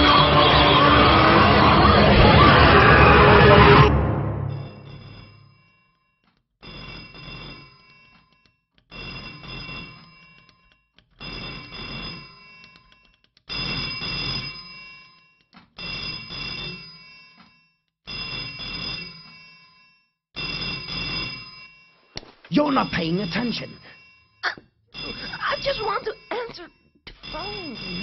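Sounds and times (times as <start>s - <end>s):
telephone bell ringing: 4.5s - 28.0s.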